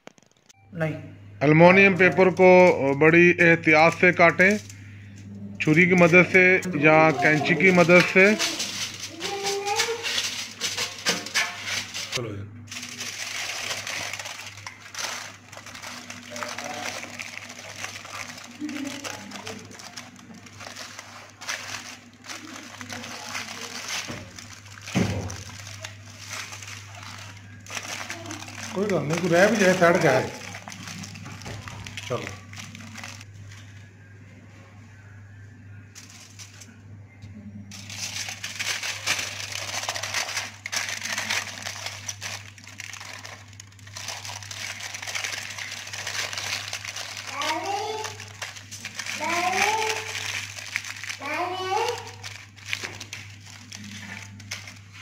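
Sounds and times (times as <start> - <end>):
aluminium foil crinkling: 0.0 - 0.6, 1.6 - 33.8, 36.0 - 36.8, 37.7 - 55.0
steady low hum: 0.6 - 55.0
foil tearing: 1.7 - 33.3, 36.0 - 36.7, 37.7 - 55.0.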